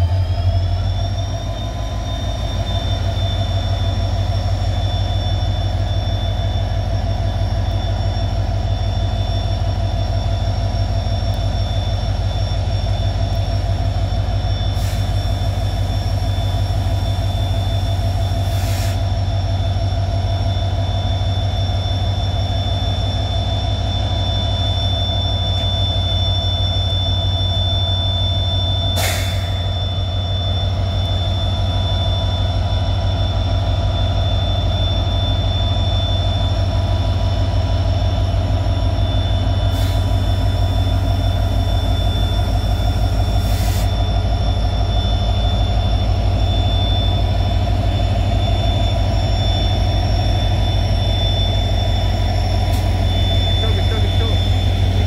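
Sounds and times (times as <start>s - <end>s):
locomotive diesel engine rumble: 0.0s - 55.0s
steady high whine: 0.0s - 55.0s.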